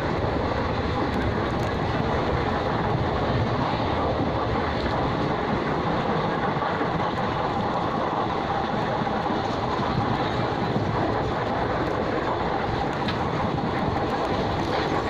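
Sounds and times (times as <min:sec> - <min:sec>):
rushing air: 0:00.0 - 0:15.0
train wheels rumbling on rails: 0:00.0 - 0:15.0.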